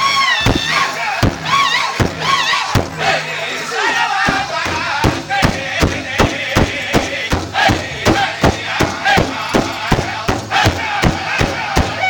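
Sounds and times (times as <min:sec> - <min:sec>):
group singing high wavering chant: 0:00.0 - 0:12.0
big drum beating: 0:00.4 - 0:03.3, 0:04.2 - 0:12.0.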